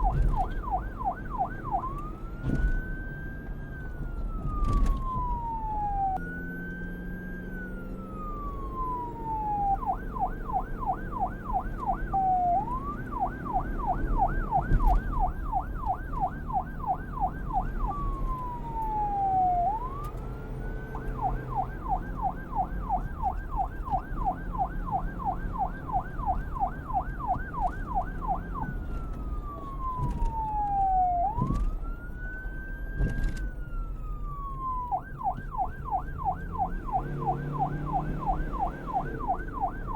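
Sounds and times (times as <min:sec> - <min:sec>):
police siren wailing and yelping: 0:00.0 - 0:39.9.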